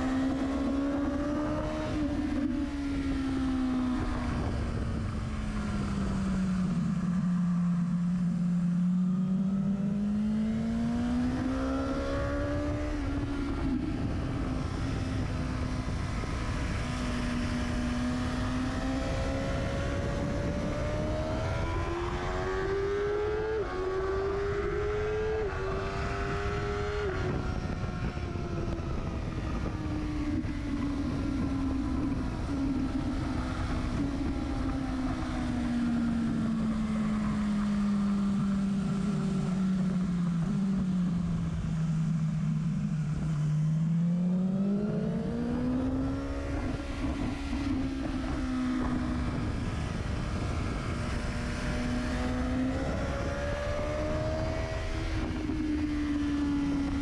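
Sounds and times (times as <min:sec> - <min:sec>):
motorcycle engine revving: 0:00.0 - 0:57.0
wind rumble: 0:00.0 - 0:57.0.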